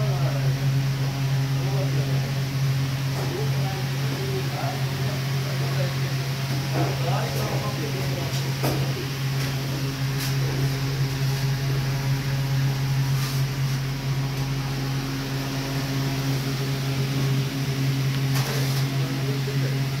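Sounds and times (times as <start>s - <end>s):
mechanical hum with hiss: 0.0s - 20.0s.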